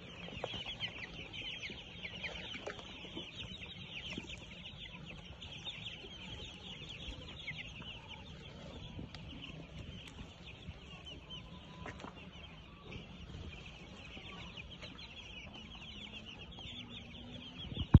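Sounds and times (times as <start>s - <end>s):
chickens peeping and clucking: 0.0s - 18.0s.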